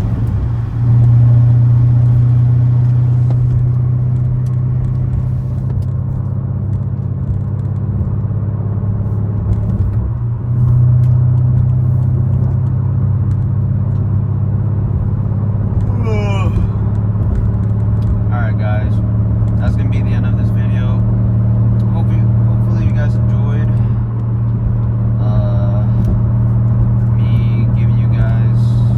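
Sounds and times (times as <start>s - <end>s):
car exhaust humming: 0.0s - 28.9s.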